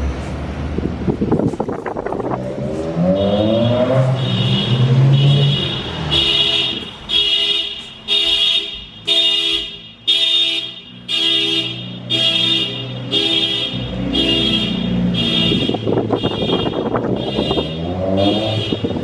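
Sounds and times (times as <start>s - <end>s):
car engine revving: 0.0s - 9.8s, 10.8s - 19.0s
car alarm blasts: 3.1s - 19.0s.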